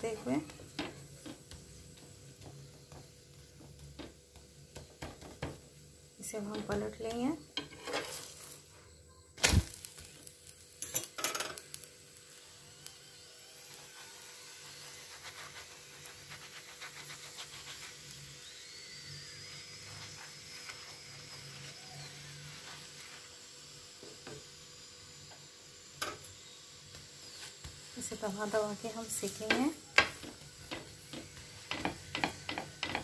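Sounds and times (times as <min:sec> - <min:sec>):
flatbread sizzling on a griddle: 0:00.0 - 0:33.0.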